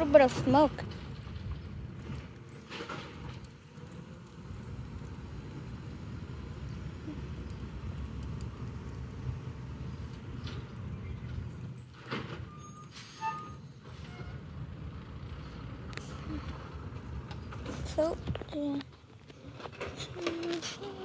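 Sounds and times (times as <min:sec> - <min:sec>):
garbage truck diesel engine rumble: 0:00.0 - 0:21.0.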